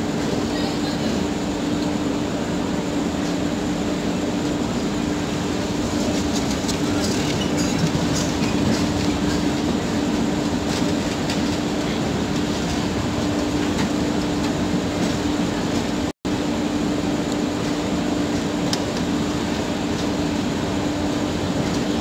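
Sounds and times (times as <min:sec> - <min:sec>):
constant low hum: 0:00.0 - 0:22.0
train wheels rumbling on rails: 0:00.0 - 0:22.0.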